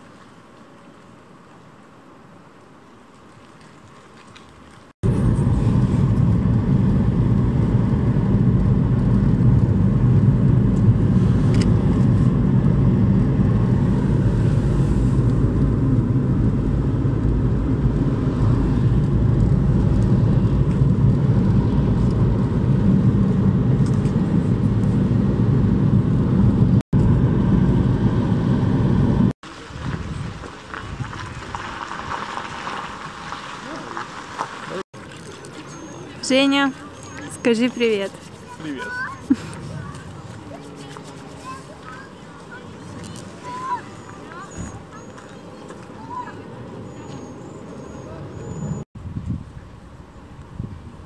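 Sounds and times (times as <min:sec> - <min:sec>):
car road noise rumble: 0:05.0 - 0:51.0.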